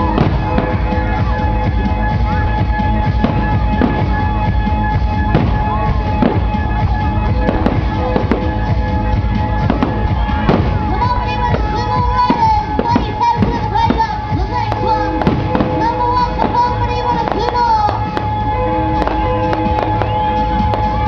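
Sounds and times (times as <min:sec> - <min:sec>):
fireworks bangs: 0:00.0 - 0:21.0
fireworks whistling: 0:00.0 - 0:21.0
music: 0:00.0 - 0:21.0.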